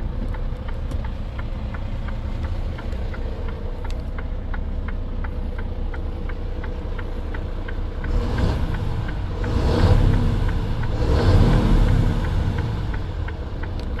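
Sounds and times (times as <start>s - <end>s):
truck diesel engine idling and revving: 0.0s - 14.0s
hazard light flasher ticking: 0.1s - 11.0s, 11.8s - 14.0s.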